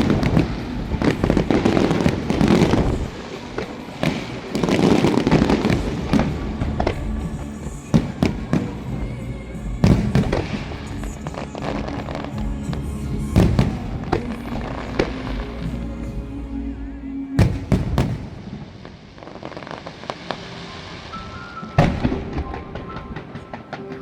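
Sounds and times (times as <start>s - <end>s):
fireworks bangs and crackles: 0.0s - 16.3s, 17.4s - 24.0s
music playing: 0.0s - 24.0s.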